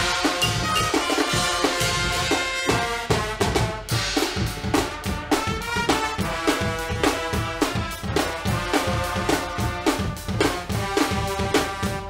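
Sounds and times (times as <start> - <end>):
drum kit beat: 0.0 - 12.0
trombones and trumpets: 0.0 - 12.0.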